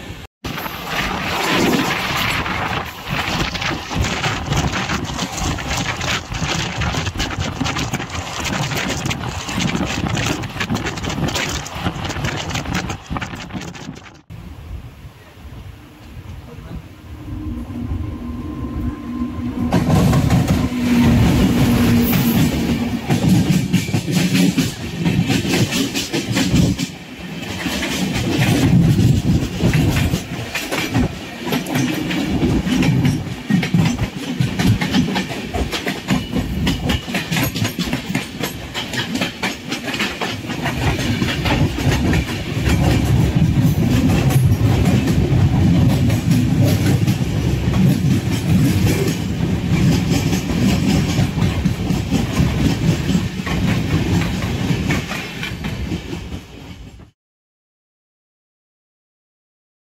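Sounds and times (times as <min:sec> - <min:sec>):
train rushing by: 0:00.0 - 0:57.2
clickety-clack of train wheels: 0:00.5 - 0:14.3, 0:19.6 - 0:57.2.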